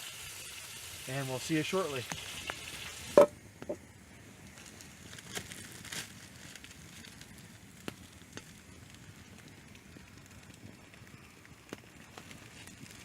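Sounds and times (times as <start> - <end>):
campfire coals crackling: 0.0 - 13.0
sharp pops from fire: 2.0 - 13.0.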